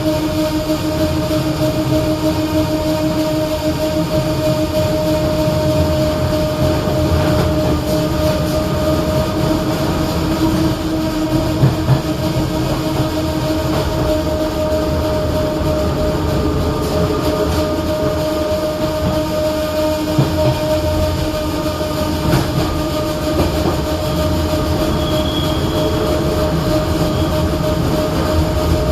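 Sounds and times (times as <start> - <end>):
electric train whine: 0.0 - 28.9
wheels rumbling on rail: 0.0 - 28.9.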